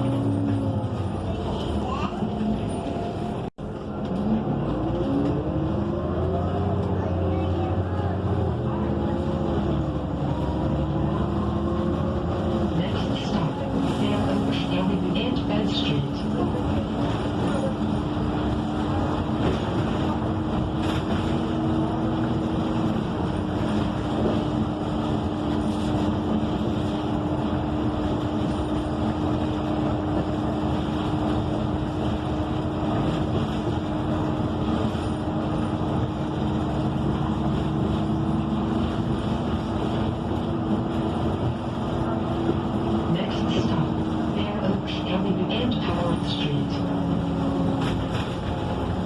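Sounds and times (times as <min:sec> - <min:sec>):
bus engine humming: 0:00.0 - 0:49.0
road and cabin noise: 0:00.0 - 0:49.0.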